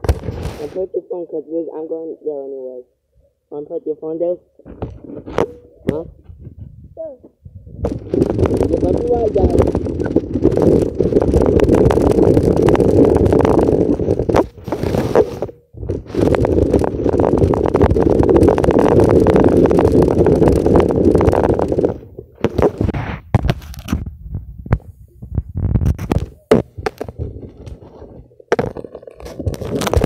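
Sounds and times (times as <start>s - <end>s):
phone microphone handling rumble: 0.0s - 1.0s, 4.6s - 30.0s.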